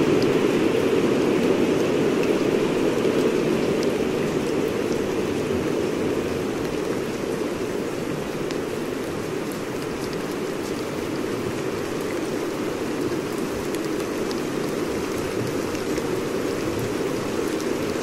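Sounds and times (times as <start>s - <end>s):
raindrop ticks: 0.0s - 18.0s
steady rain hiss: 0.0s - 18.0s.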